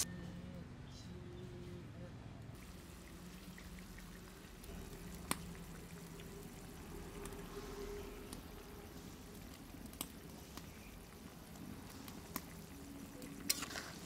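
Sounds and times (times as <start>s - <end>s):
curry bubbling in a wok: 2.6s - 14.0s.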